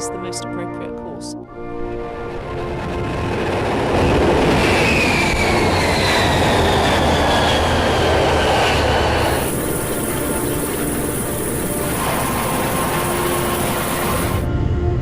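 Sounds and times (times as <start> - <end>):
jet engine rumble and whine: 1.6 - 15.0.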